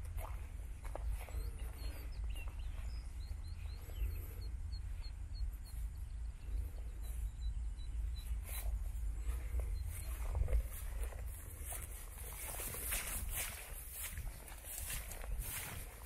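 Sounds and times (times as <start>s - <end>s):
bird chirping: 0.0s - 16.0s
wind rumbling on microphone: 0.0s - 16.0s.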